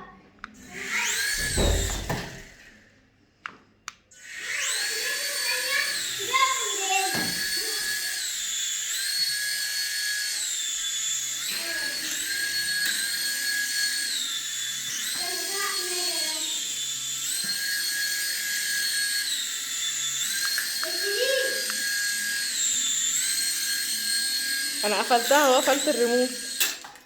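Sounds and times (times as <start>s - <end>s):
toy helicopter motor whine: 0.4s - 2.9s, 4.1s - 27.0s.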